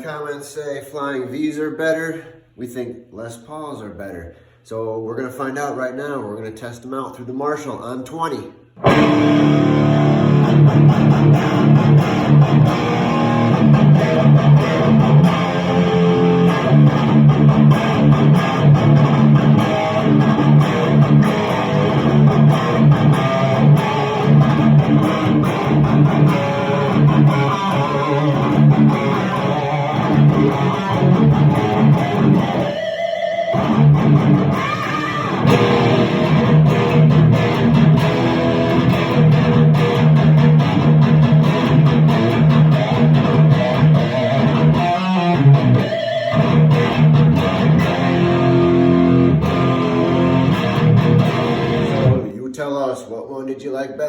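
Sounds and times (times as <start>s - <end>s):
electric guitar riffing: 8.8s - 52.4s.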